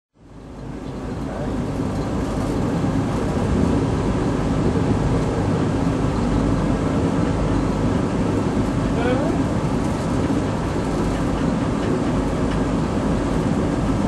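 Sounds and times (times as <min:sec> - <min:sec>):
rail vehicle rumbling: 0:00.2 - 0:14.0.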